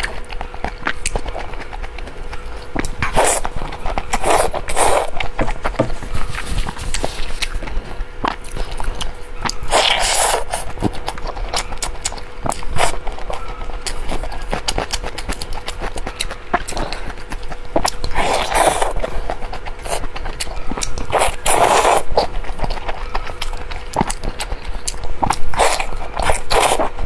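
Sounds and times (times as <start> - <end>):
slurping: 0.0 - 27.0
wet chewing and lip smacking: 0.0 - 27.0.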